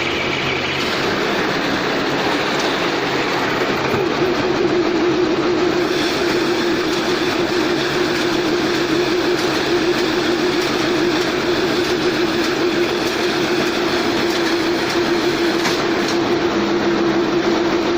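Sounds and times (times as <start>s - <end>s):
baler machine humming and clattering: 0.0s - 17.9s.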